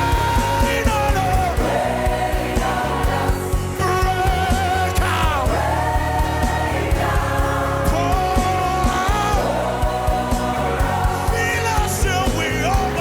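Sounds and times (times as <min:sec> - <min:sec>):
band with steady drum beat: 0:00.0 - 0:13.0
voices singing: 0:00.0 - 0:13.0.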